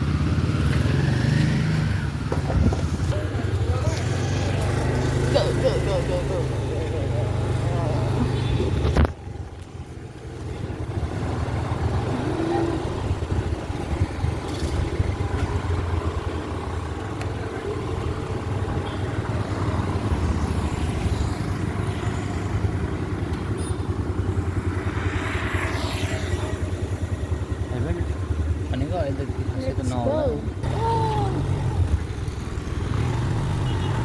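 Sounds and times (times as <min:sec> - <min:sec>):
vehicle engine and road rumble: 0:00.0 - 0:34.0.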